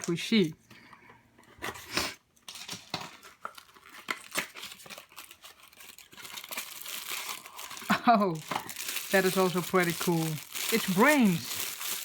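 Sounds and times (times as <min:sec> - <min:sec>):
packaging crinkling and tearing: 0:01.6 - 0:12.0.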